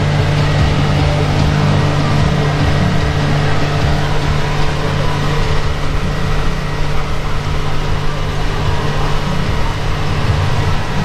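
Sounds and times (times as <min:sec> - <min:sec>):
outboard motor droning: 0:00.0 - 0:11.0
rushing boat wake: 0:00.0 - 0:11.0.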